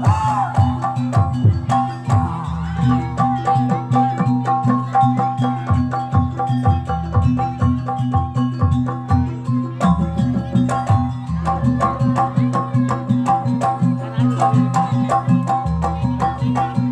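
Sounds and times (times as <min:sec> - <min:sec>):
hand drums fast rhythm: 0:00.0 - 0:16.9.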